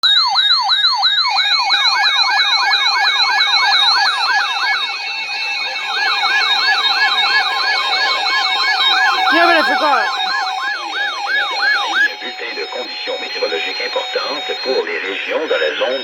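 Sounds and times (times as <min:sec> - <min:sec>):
electronic siren-like alert tone: 0:00.0 - 0:16.0
pulsed steady beep: 0:00.0 - 0:16.0.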